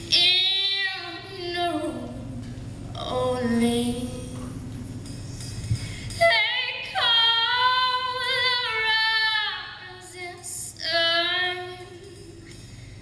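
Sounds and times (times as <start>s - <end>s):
woman singing into microphone: 0.0s - 4.6s, 6.2s - 12.5s.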